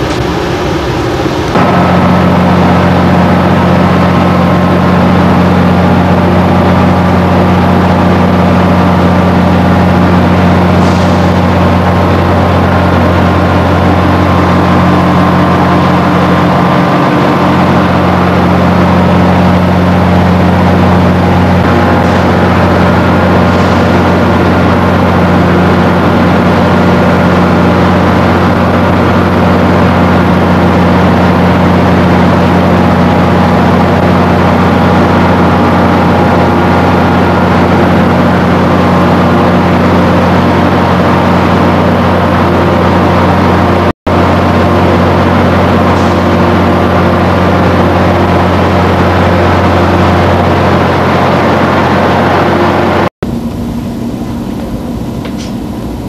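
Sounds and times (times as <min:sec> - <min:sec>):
stationary train humming: 0:00.0 - 0:56.0.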